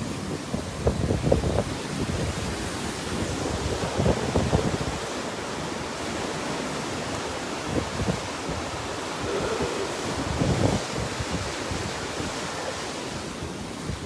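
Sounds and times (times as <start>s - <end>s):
rushing floodwater: 0.0s - 14.0s
wind buffeting microphone: 0.0s - 14.0s.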